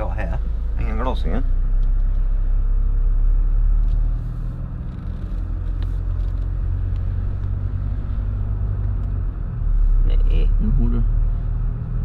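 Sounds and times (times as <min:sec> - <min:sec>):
car engine running inside cabin: 0:00.0 - 0:12.0.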